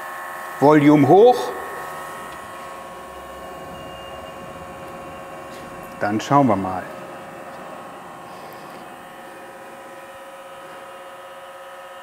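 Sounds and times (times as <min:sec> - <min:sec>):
compressor humming: 0:00.0 - 0:12.0.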